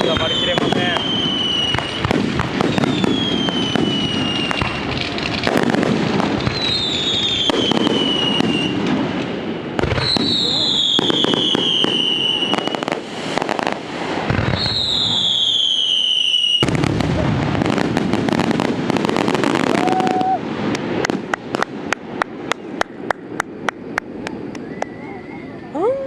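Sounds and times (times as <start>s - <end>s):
firework whistling: 0.0s - 22.8s, 23.4s - 26.0s
firework bangs: 0.0s - 25.1s
fireworks crackling: 0.0s - 26.0s.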